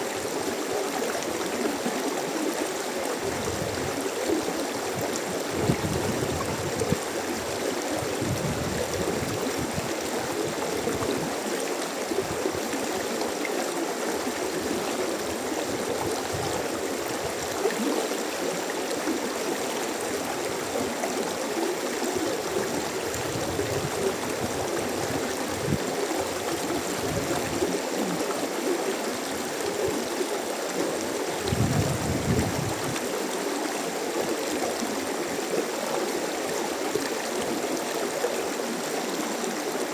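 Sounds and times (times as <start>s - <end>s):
low water gurgles: 0.0s - 39.9s
stream water rushing: 0.0s - 39.9s.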